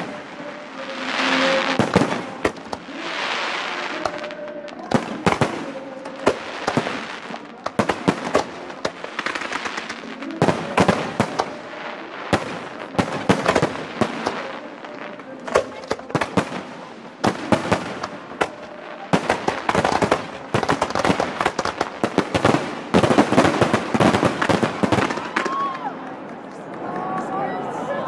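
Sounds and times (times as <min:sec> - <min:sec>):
fireworks bursting with sharp bangs: 0:00.0 - 0:26.3
fireworks crackling and hissing: 0:00.0 - 0:26.7.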